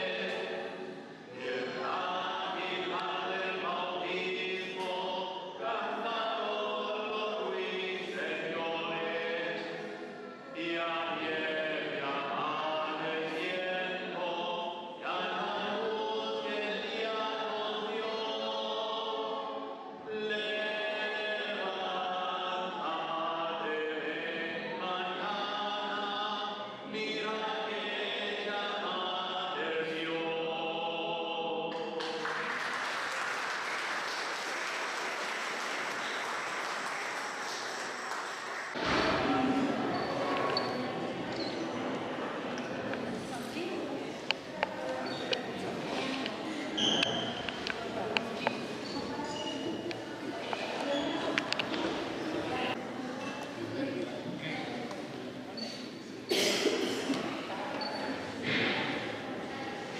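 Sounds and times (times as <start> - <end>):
choir singing a hymn: 0.0 - 32.7, 38.8 - 54.7.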